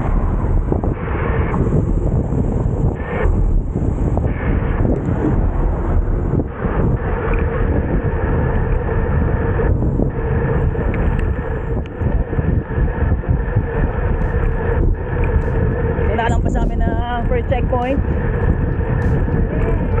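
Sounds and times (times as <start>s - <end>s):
faint constant hum: 0.0s - 20.0s
wind rushing over microphone: 0.0s - 20.0s.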